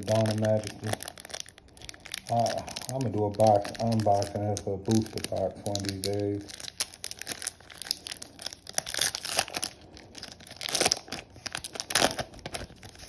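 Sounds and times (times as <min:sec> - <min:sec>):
foil wrapper tearing and crinkling: 0:00.0 - 0:13.0.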